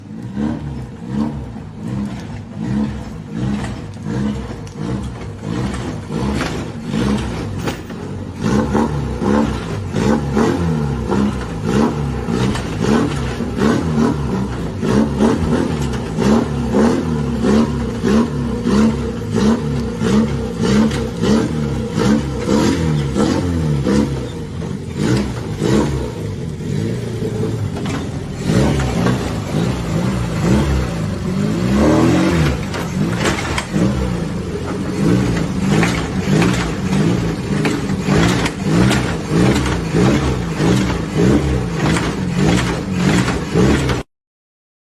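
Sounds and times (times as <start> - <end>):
car engine revving: 0.0 - 44.1.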